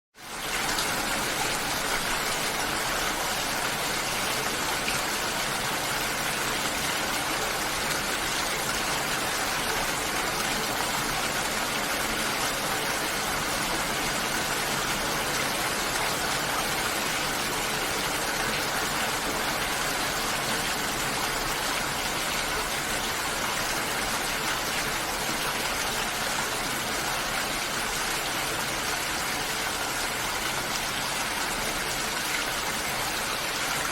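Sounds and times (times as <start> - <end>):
steady rain: 0.2 - 33.9.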